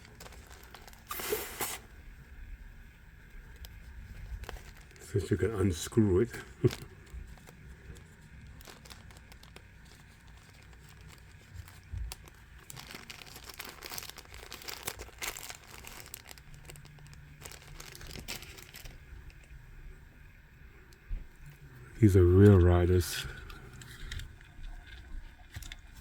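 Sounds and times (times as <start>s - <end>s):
plastic packaging crinkling: 0.0s - 1.9s, 3.2s - 19.6s, 21.4s - 26.0s.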